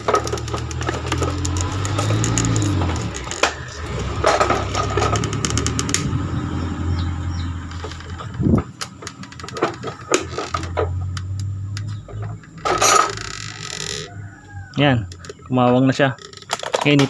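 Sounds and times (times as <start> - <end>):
adhesive crackling: 0.0 - 6.2, 7.1 - 17.0
low hum: 0.0 - 15.5.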